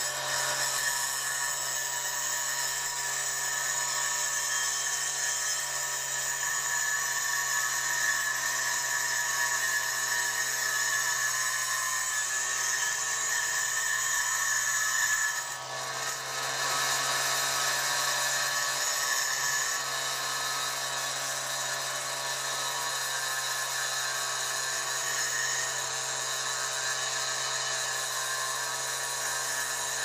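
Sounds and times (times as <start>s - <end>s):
electric rotary tool whining: 0.0s - 30.0s.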